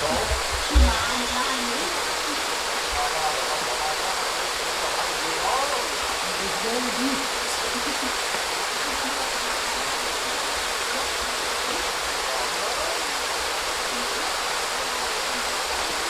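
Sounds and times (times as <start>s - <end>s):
stream water rushing over rocks: 0.0s - 16.0s.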